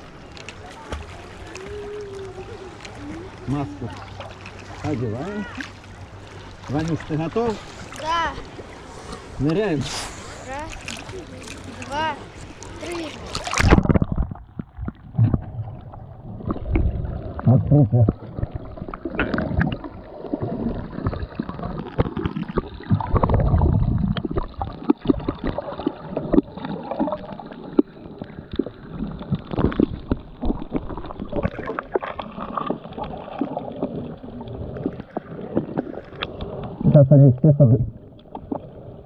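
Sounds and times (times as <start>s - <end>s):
small underwater clicks and crackles: 0.0s - 37.1s, 38.0s - 39.0s
low water surges: 0.0s - 39.0s
underwater gurgling: 0.0s - 39.0s.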